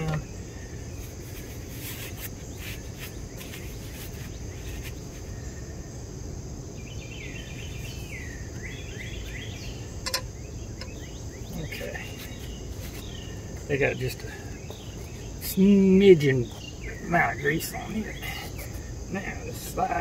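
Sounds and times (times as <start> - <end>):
crickets trilling: 0.0 - 20.0
low background noise: 0.0 - 20.0.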